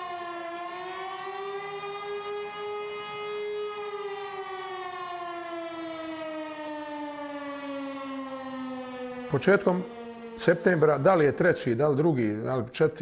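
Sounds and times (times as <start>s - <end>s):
air-raid siren wailing: 0.0s - 12.4s.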